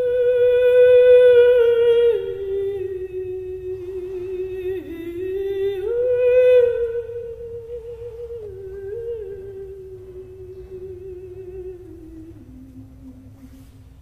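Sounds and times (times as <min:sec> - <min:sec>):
person singing wordless melody: 0:00.0 - 0:13.8.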